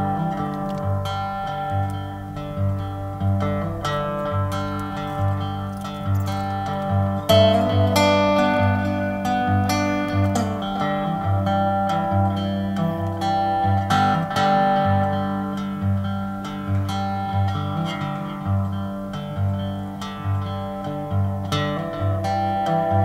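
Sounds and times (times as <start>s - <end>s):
plucked acoustic guitar: 0.0s - 23.0s.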